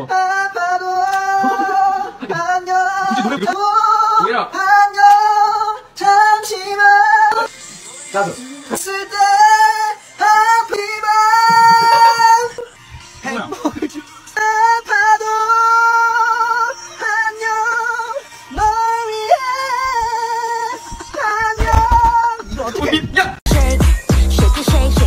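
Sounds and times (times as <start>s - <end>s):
high voice singing with vibrato: 0.0s - 7.5s, 8.3s - 12.8s, 13.8s - 25.0s.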